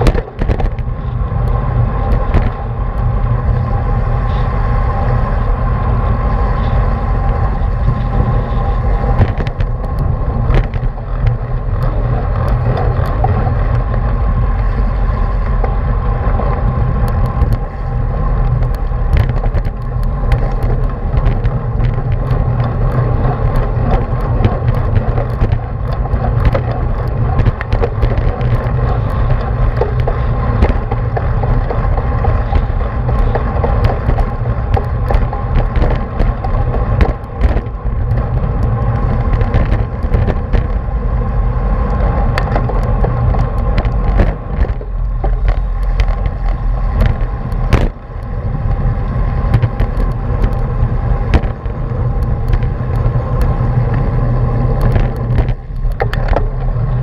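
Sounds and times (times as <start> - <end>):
small clicks and knocks: 0.0 - 3.1, 6.6 - 14.7, 15.4 - 57.0
tyres rumbling on pavement: 0.0 - 57.0
wind buffeting microphone: 0.0 - 57.0.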